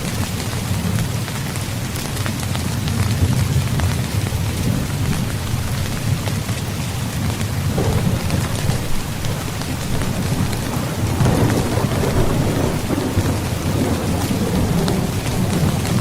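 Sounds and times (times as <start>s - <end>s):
heavy rain: 0.0s - 16.0s
rolling thunder rumble: 2.6s - 16.0s.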